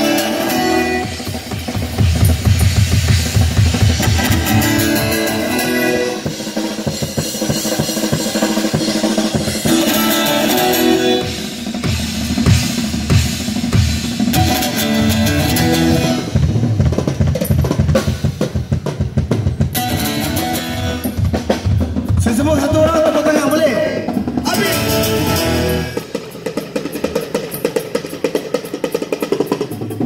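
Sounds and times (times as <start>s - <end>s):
electric guitar: 0.0s - 22.2s, 24.1s - 26.2s
drum kit beat: 0.0s - 30.0s.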